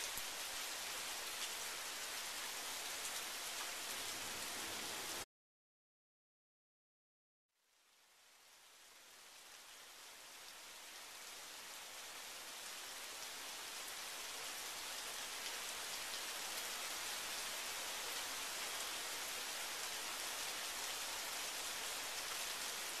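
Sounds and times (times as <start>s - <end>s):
rain on pavement and shrubs: 0.0s - 5.2s, 7.7s - 23.0s.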